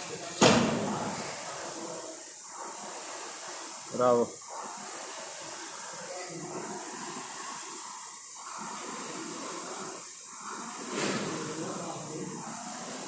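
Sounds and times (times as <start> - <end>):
rowing machine flywheel whooshing: 0.0 - 13.0.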